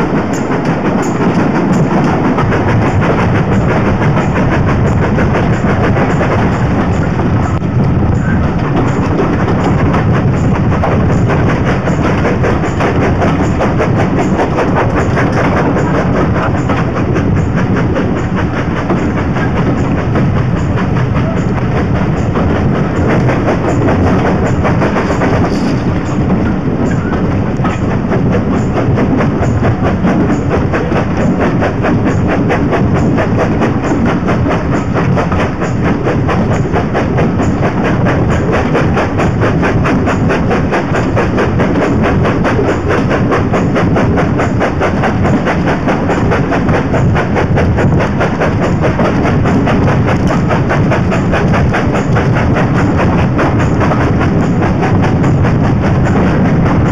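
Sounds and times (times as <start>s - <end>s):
rushing air: 0.0s - 56.9s
steam locomotive exhaust beat: 0.0s - 56.9s
wheels clattering over rail joints: 0.0s - 56.9s.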